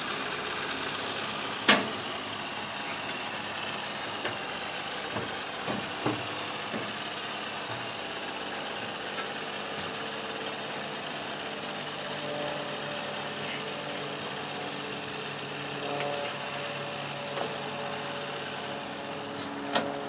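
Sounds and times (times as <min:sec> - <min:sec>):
diesel boat engine running: 0:00.0 - 0:20.0.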